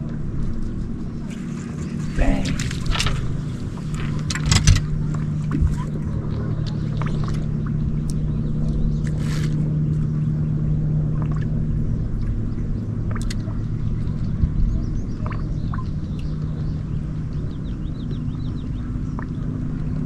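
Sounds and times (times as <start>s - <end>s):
boat motor rumbling: 0.0s - 20.0s.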